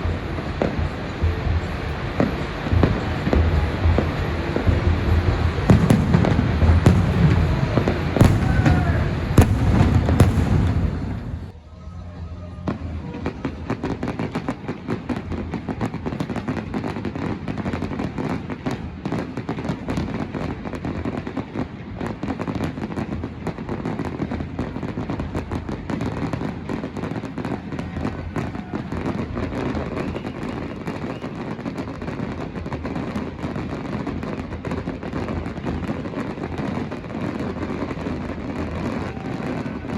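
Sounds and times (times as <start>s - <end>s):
dense crackling fireworks: 0.0s - 39.9s
whistling fireworks: 0.0s - 39.9s.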